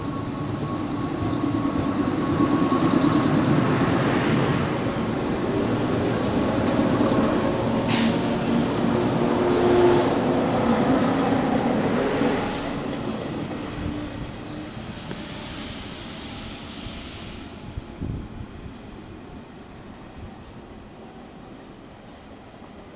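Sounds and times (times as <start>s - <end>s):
electric train passing: 0.0s - 22.9s.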